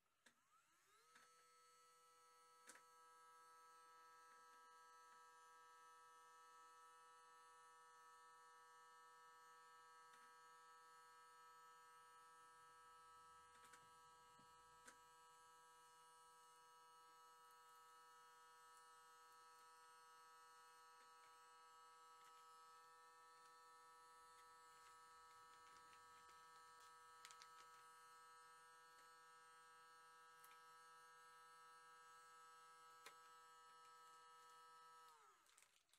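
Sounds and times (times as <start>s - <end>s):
faint electric motor hum: 0.0s - 35.9s.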